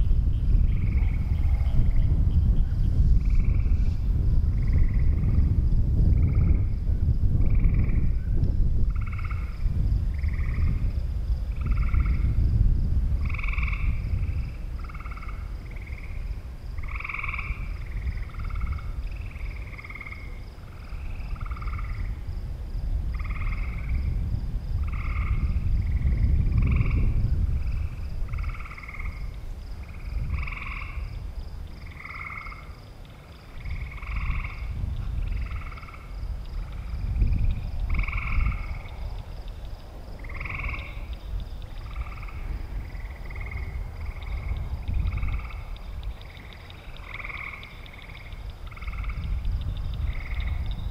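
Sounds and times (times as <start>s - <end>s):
frogs croaking: 0.0s - 50.9s
wind rumble on microphone: 0.0s - 50.9s.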